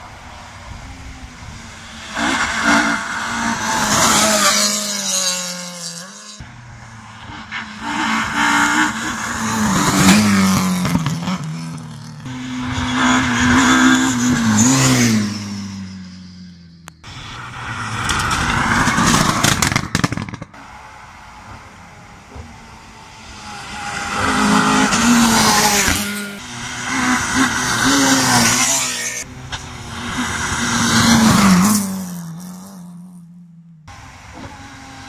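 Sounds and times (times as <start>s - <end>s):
rally car engine revving: 1.0s - 16.2s, 16.9s - 20.8s, 21.4s - 35.0s.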